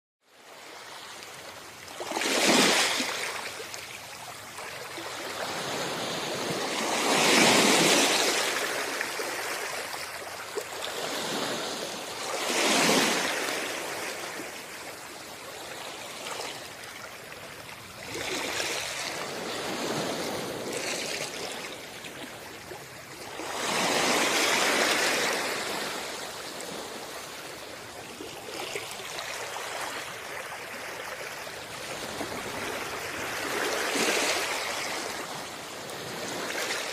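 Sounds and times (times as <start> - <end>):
small waves washing onto sand: 0.3 - 36.9.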